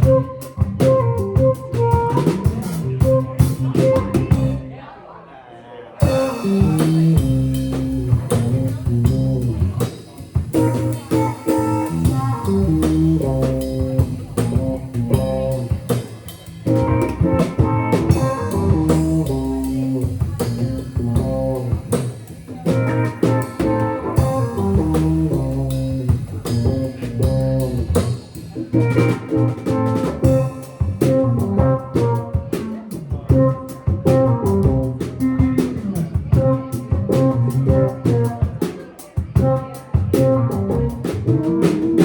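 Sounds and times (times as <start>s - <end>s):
drum kit steady beat: 0.0s - 4.7s, 6.0s - 42.0s
bass guitar line: 0.0s - 4.8s, 6.0s - 38.7s, 39.3s - 42.0s
guitar: 0.0s - 4.9s, 6.0s - 42.0s.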